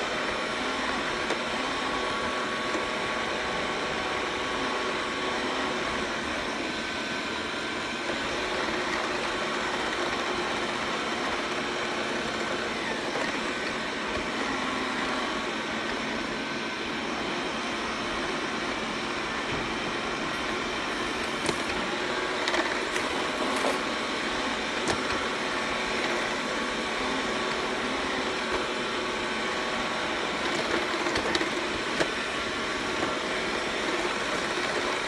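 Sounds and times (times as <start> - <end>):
robot vacuum cleaner whirring: 0.0 - 35.0.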